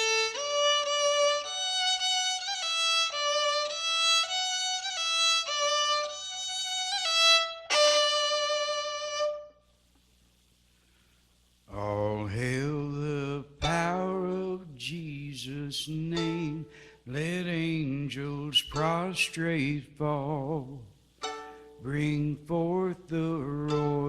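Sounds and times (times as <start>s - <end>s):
solo instrumental hymn melody: 0.0s - 10.1s, 11.7s - 24.0s.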